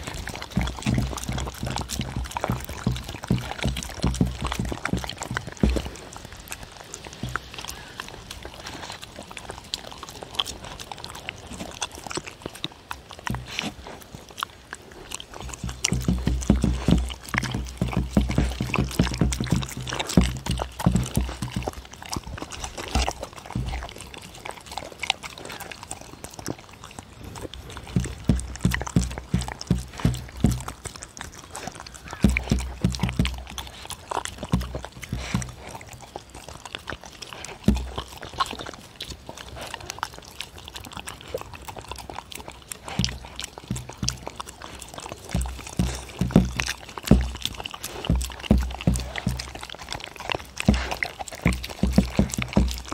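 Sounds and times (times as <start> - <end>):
dogs licking and chewing: 0.0 - 52.9.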